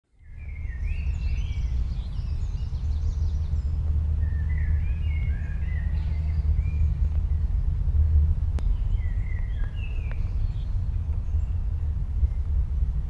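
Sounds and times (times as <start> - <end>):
birds warbling: 0.2 - 12.5
steady low rumble: 0.2 - 13.0.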